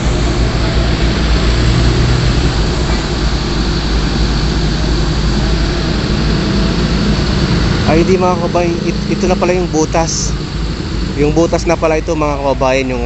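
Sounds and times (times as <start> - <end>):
heavy machinery diesel engines rumbling: 0.0 - 13.0.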